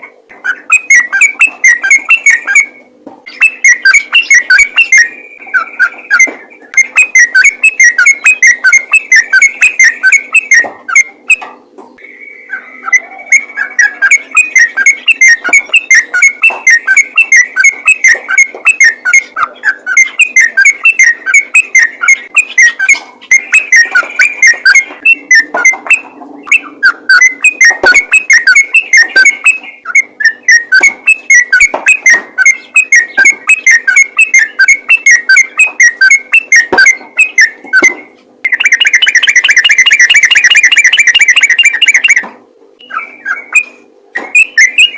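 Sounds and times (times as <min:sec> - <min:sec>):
bird singing chattering notes: 0:00.0 - 0:44.9.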